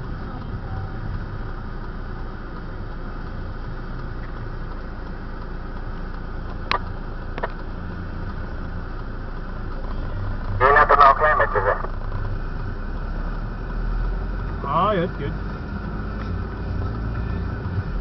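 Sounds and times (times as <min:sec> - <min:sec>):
traffic engine and road rumble: 0:00.0 - 0:18.0.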